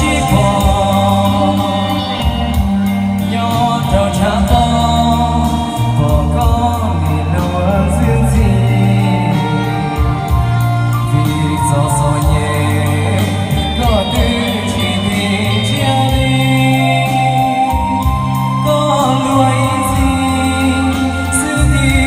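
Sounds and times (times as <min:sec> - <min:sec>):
backing track with bass: 0:00.0 - 0:22.0
man singing into a microphone: 0:00.0 - 0:22.0.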